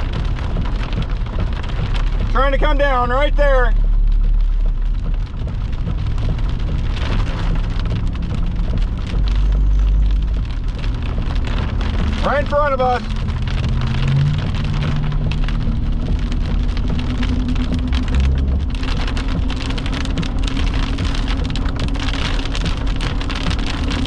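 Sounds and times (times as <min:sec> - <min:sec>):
heavy rain pelting a vehicle: 0:00.0 - 0:24.0.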